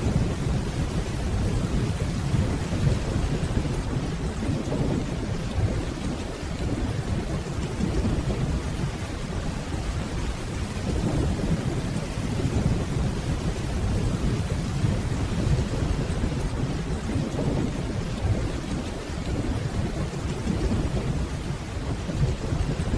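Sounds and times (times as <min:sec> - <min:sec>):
distant thunder rumbling: 0:00.0 - 0:22.8
rain falling: 0:00.0 - 0:22.9.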